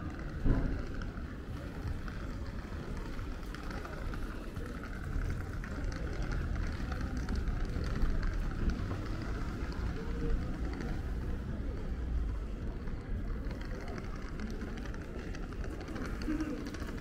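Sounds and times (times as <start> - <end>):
faint scattered clicks: 0.0 - 17.0
low rumble of shopping arcade: 0.0 - 17.0.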